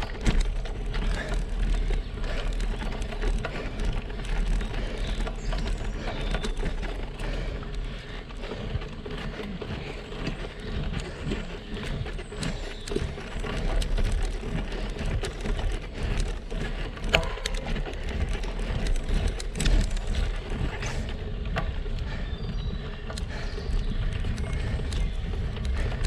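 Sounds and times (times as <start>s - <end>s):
bike clicks and rattles: 0.0s - 26.0s
bike tyre and wind noise: 0.0s - 26.0s.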